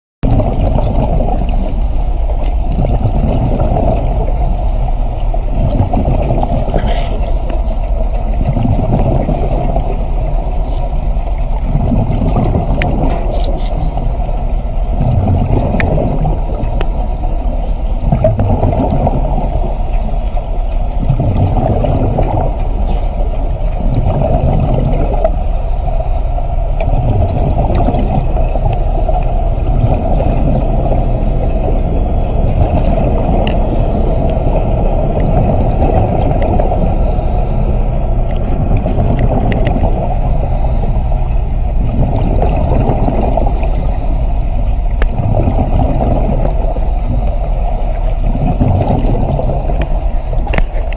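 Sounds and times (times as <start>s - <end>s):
underwater rumbling and bubbling: 0.2s - 50.9s.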